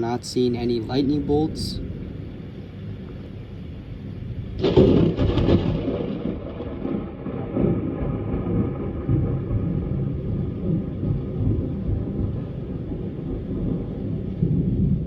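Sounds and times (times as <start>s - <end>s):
thunder crack and rumble: 0.6s - 15.0s.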